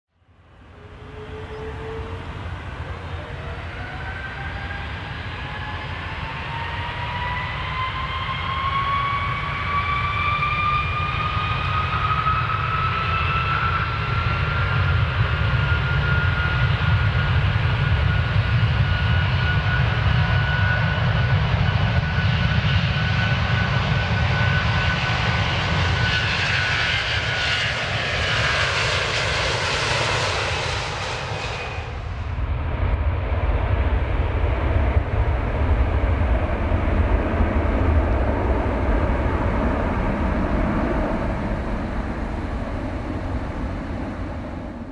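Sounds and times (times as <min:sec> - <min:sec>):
airplane engines powering up: 0:00.3 - 0:44.9.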